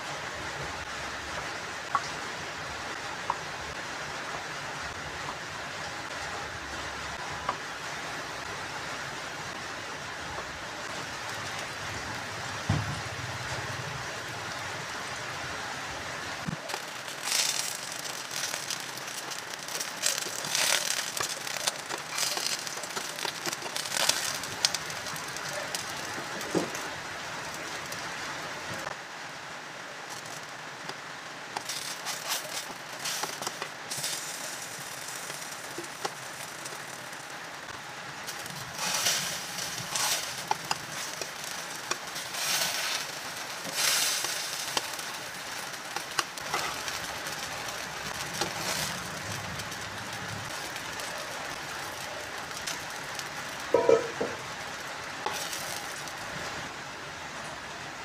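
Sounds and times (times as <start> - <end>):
eggplant frying in oil: 0.0 - 58.0.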